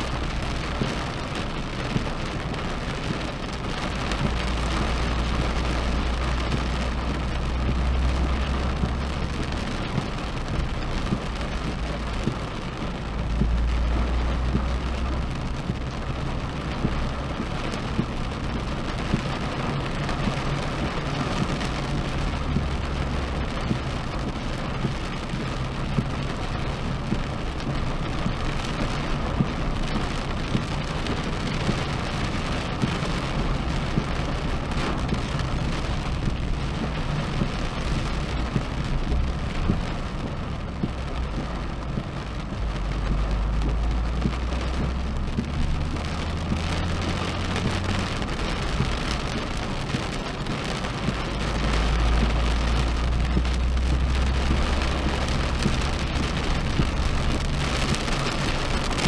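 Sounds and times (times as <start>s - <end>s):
engine and tyre drone: 0.0s - 59.0s
rain on car windshield and roof: 0.0s - 59.0s.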